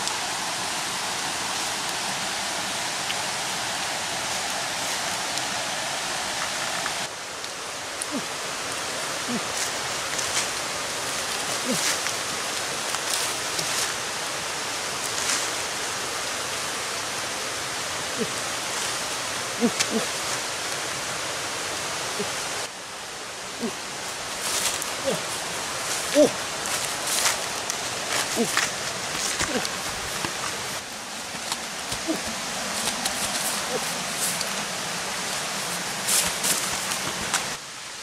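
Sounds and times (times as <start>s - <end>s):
leaves rustling: 0.0s - 38.0s
steady rushing noise: 0.0s - 38.0s.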